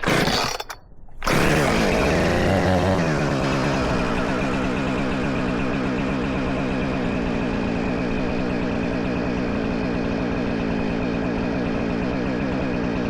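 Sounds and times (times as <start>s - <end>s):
chainsaw cutting wood at high revs: 0.0s - 13.0s.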